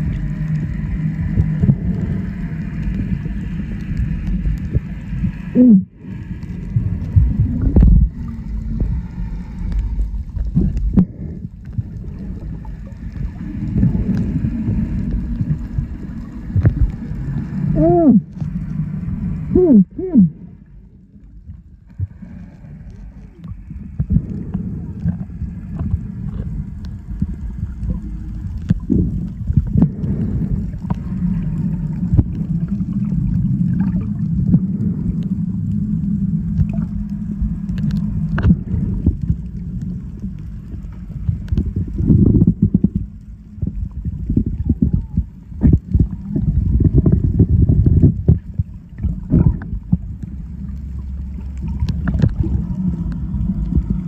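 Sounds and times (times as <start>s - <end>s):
underwater clicks: 0.0s - 20.3s, 21.2s - 54.0s
underwater gurgling: 0.0s - 54.0s
underwater rumble: 0.0s - 54.0s.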